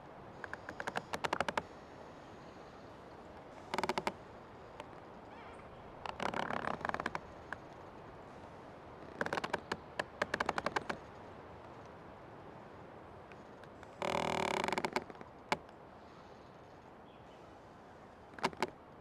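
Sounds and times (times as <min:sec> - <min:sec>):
old tree creaking: 0:00.0 - 0:12.0, 0:13.2 - 0:16.8, 0:18.2 - 0:18.8
faint steady hiss: 0:00.0 - 0:19.0.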